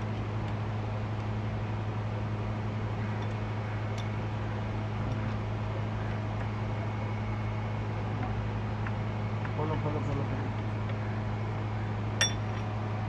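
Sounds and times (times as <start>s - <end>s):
low machine hum with hiss: 0.0s - 13.0s.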